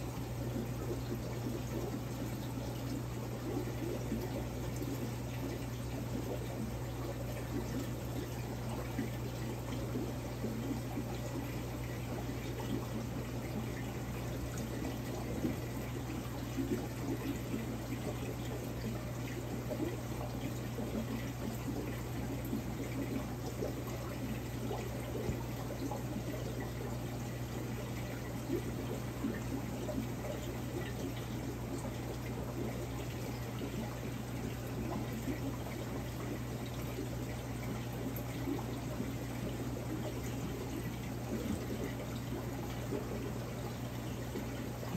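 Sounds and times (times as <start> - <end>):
low pump hum: 0.0 - 44.9
water trickling and bubbling: 0.0 - 44.9.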